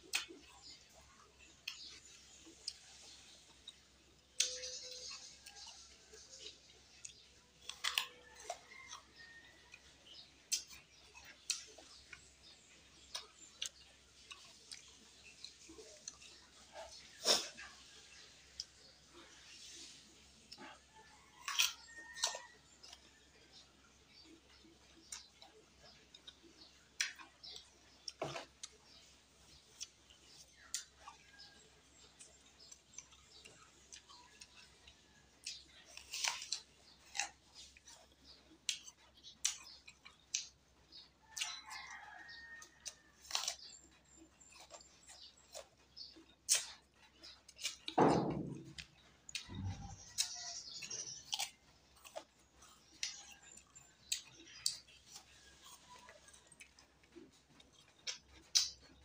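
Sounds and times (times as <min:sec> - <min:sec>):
person chewing with wet smacks: 0:00.0 - 0:59.0.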